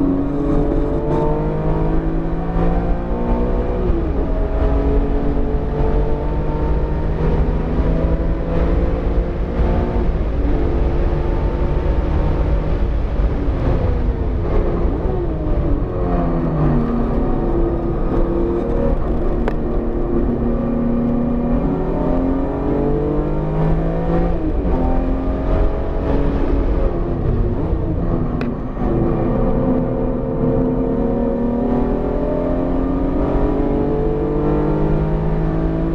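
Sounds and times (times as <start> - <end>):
car engine revving through gears: 0.0 - 35.9
road and wind rumble: 0.0 - 35.9.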